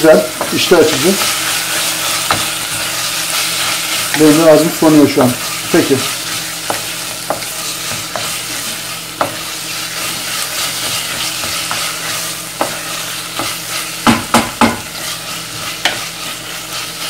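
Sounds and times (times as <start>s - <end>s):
food sizzling in oil: 0.0s - 17.0s
wooden spoon scraping a pot: 0.1s - 14.0s, 14.7s - 17.0s.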